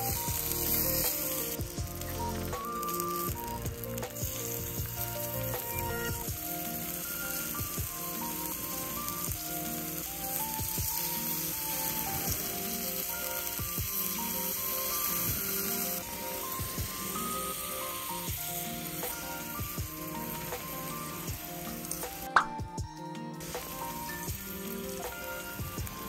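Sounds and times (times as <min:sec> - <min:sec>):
beef sizzling on iron griddle: 0:00.0 - 0:22.4, 0:23.2 - 0:26.0
background music: 0:00.0 - 0:26.0.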